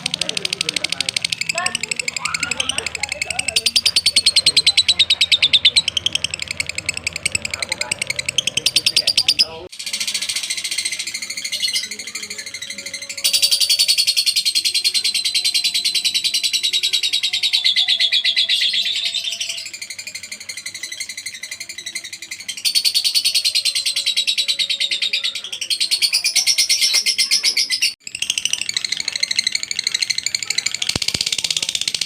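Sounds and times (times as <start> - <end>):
lovebird chattering trill: 0.0 - 32.0.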